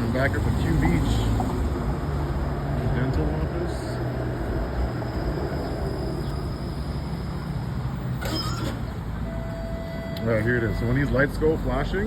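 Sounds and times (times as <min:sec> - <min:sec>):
streetcar rumbling: 0:00.0 - 0:12.0.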